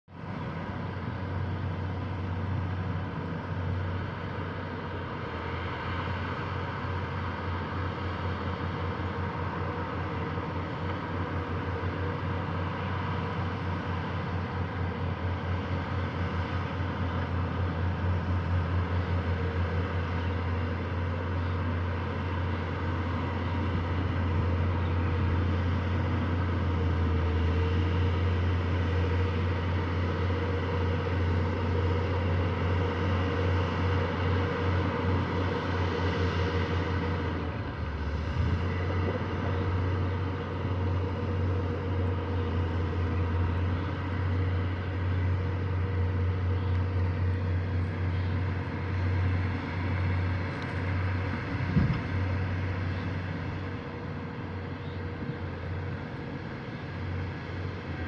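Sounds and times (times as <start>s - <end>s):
heavy machine diesel engines droning: 0.1s - 58.0s.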